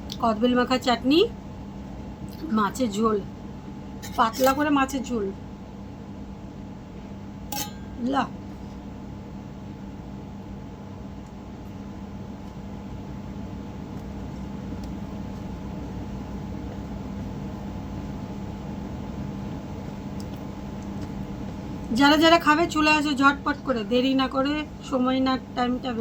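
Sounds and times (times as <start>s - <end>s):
electric appliance hum: 0.0s - 26.0s.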